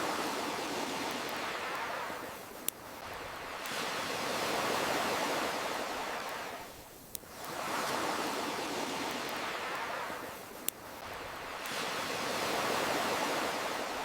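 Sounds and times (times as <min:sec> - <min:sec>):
campfire crackling and popping: 0:00.0 - 0:13.3
ocean waves washing: 0:00.0 - 0:14.0.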